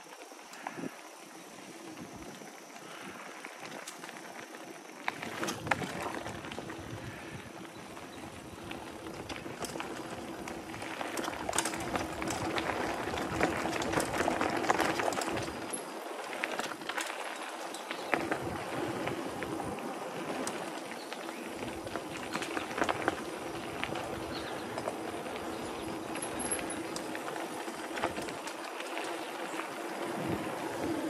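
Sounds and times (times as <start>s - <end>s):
bike clicking and rattling: 0.0s - 31.0s
bike tyres rolling on dirt: 0.0s - 31.0s.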